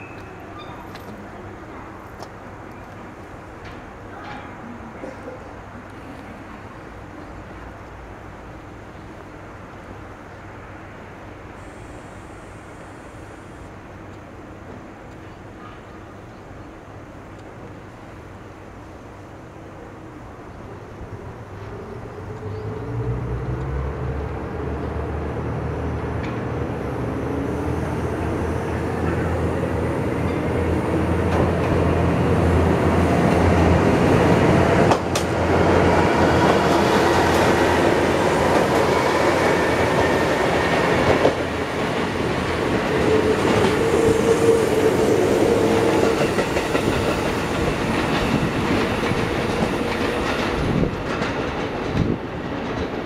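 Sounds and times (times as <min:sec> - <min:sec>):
diesel railcar passing: 0:00.0 - 0:53.0.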